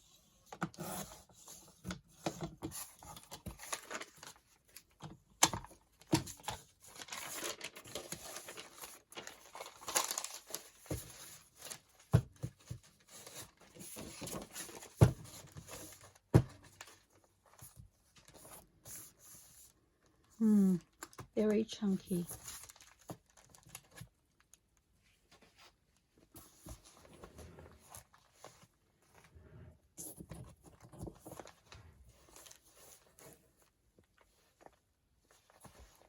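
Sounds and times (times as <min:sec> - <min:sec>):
paper rustling and crinkling: 0:00.9 - 0:19.8, 0:22.1 - 0:29.4, 0:30.0 - 0:36.0.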